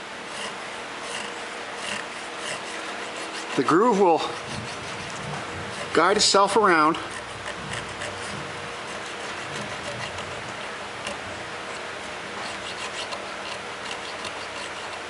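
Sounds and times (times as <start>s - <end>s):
file rasping on metal: 0.0s - 15.0s.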